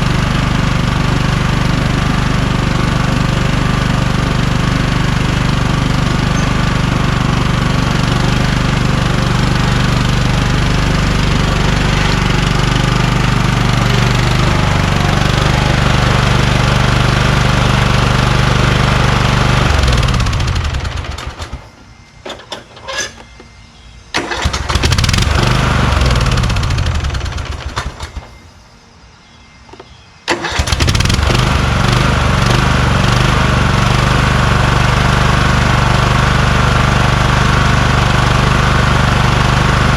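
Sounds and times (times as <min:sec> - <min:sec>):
lawn tractor engine running: 0:00.0 - 0:23.3, 0:24.1 - 0:28.3, 0:29.8 - 0:39.9.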